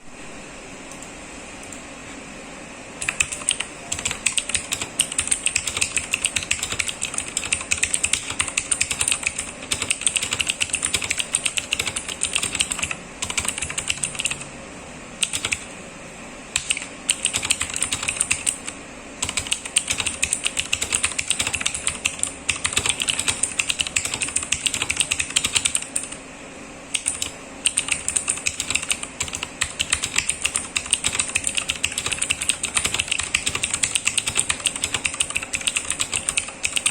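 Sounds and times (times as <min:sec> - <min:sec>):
typing on mechanical keyboard: 0:03.0 - 0:14.5, 0:15.2 - 0:15.7, 0:16.6 - 0:26.2, 0:26.9 - 0:36.9.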